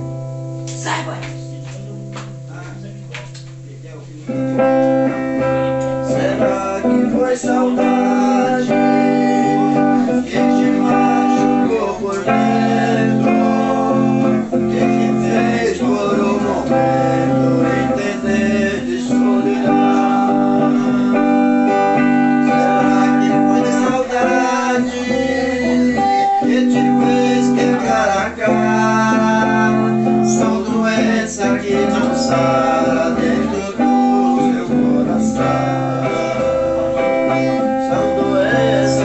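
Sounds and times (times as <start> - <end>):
electric guitar strumming chords: 0.0 - 39.0.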